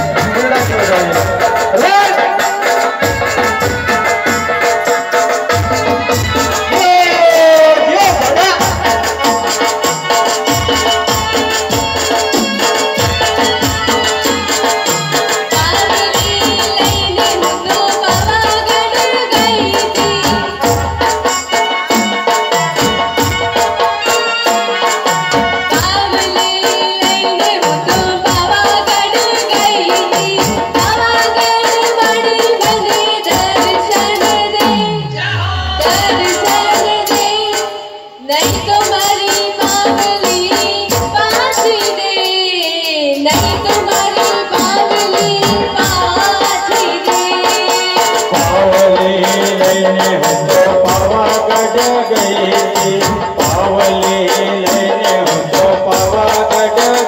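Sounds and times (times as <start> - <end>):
fast rattling percussion: 0.0 - 35.1, 35.8 - 57.0
keyboard melody: 0.0 - 57.0.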